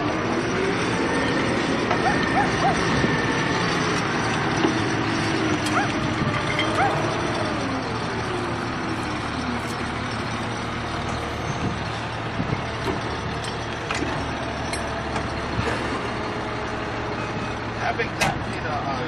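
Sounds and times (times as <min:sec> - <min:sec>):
heavy vehicle engine rumbling: 0:00.0 - 0:19.0.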